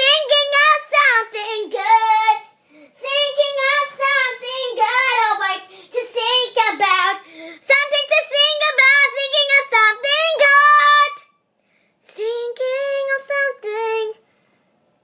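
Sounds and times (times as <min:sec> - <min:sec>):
girl singing unaccompanied: 0:00.0 - 0:11.4, 0:12.0 - 0:14.3.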